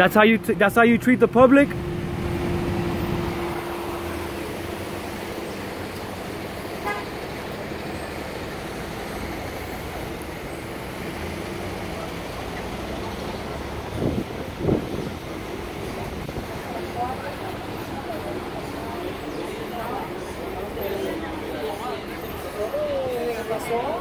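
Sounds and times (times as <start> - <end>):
street traffic noise: 0.0 - 24.0.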